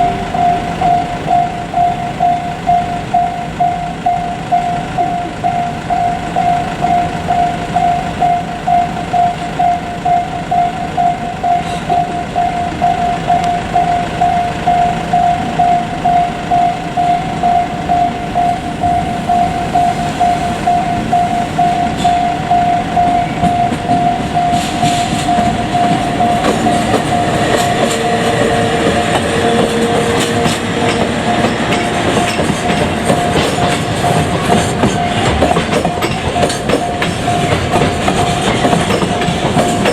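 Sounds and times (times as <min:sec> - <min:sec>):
level crossing alarm ding: 0:00.0 - 0:39.9
train wheels clattering on rails: 0:00.0 - 0:39.9.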